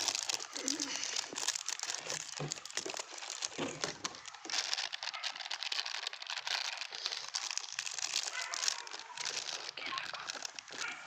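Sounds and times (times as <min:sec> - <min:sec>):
plastic packet crinkling: 0:00.0 - 0:11.0
scissors cutting plastic: 0:00.0 - 0:11.0.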